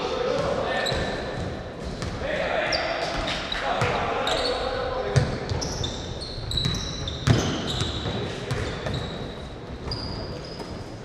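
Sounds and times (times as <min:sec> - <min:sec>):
sneakers squeaking on floor: 0:00.3 - 0:11.0.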